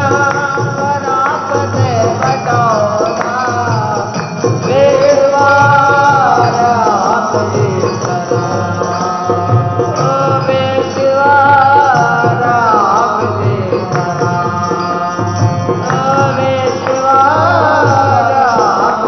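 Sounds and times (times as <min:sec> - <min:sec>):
drum beat: 0:00.0 - 0:19.0.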